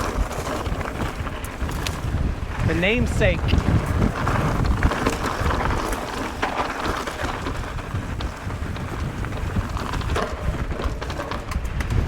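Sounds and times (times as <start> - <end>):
bike tyres crunching on dirt: 0.0 - 12.0
wind buffeting microphone: 0.0 - 12.0.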